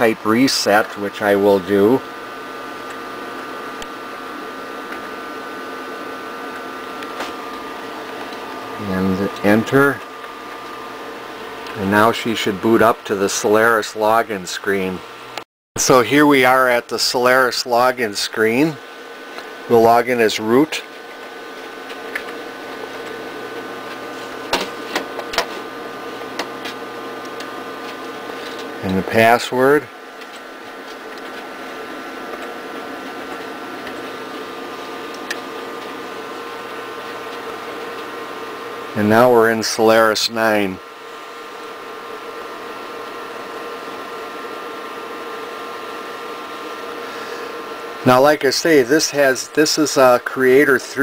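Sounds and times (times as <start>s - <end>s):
computer humming: 0.0s - 51.0s
steady whining tones: 0.0s - 51.0s.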